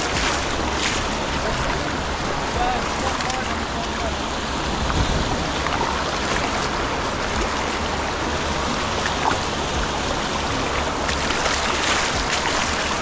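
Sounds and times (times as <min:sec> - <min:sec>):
water lapping over stones: 0:00.0 - 0:13.0.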